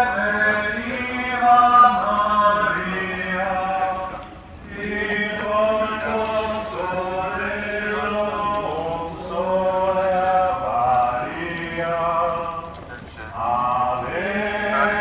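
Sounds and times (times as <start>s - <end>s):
group singing a slow hymn: 0.0s - 15.0s.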